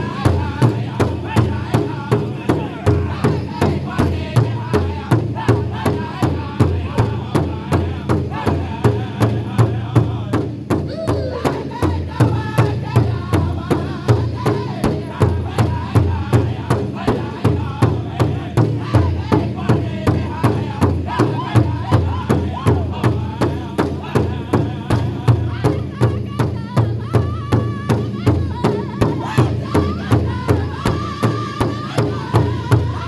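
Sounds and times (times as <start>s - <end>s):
large hide drum beating: 0.0s - 33.0s
men singing in high voices: 0.0s - 33.0s.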